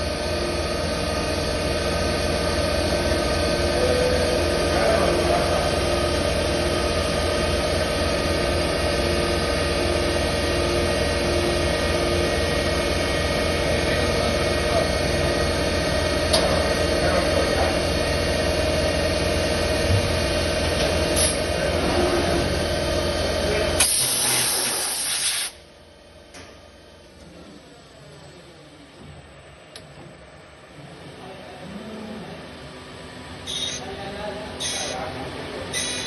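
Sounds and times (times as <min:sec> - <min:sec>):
cnc machine humming and whining: 0:00.0 - 0:25.0, 0:25.7 - 0:36.0.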